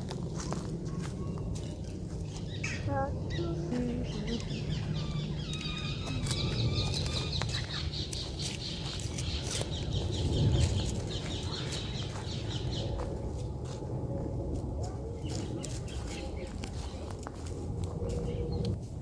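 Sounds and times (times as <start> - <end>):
low rumble of wind or traffic: 0.0 - 19.0
birds chirping: 0.2 - 13.6, 15.1 - 17.2.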